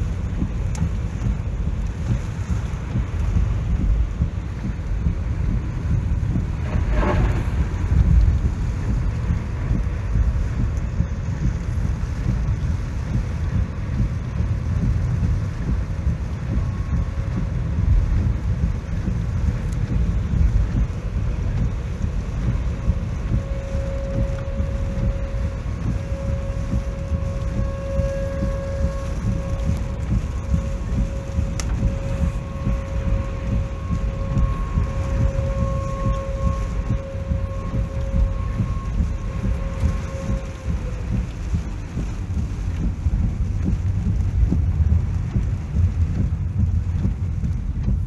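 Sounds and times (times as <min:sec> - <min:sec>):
rain noise: 0:00.0 - 0:48.0
wind buffeting microphone: 0:00.0 - 0:48.0.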